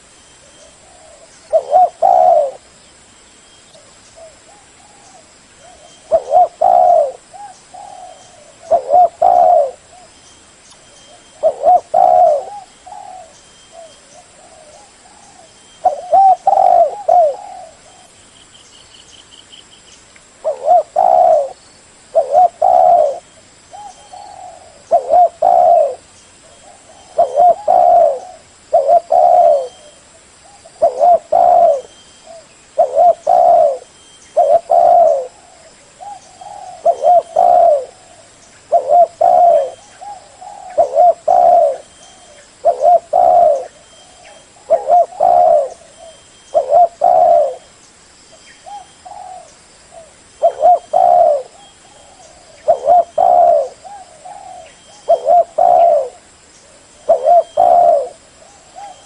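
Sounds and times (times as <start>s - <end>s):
high chirps of small birds: 0.1s - 49.6s, 50.3s - 59.0s
dove cooing: 0.6s - 2.8s, 3.8s - 10.1s, 11.1s - 18.2s, 20.4s - 47.8s, 48.6s - 59.0s.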